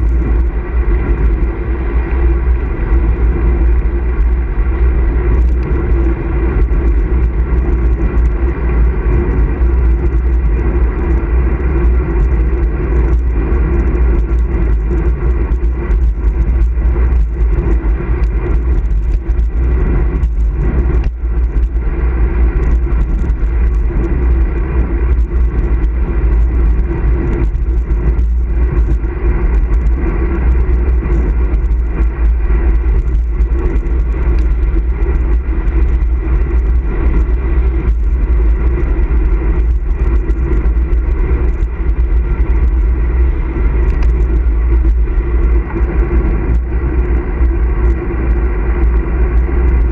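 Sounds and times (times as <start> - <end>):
tyre and drivetrain hum: 0.0 - 49.9
wind rumble on microphone: 0.0 - 49.9.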